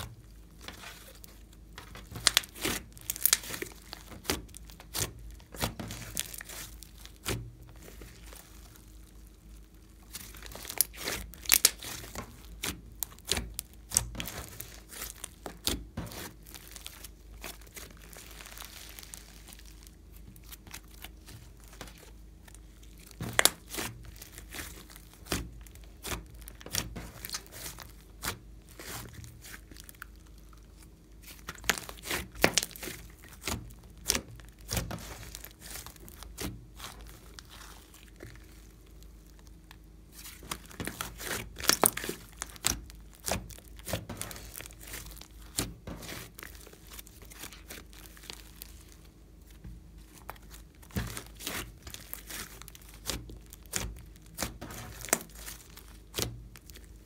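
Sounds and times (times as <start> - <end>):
slime squishing and popping: 0.0 - 57.0.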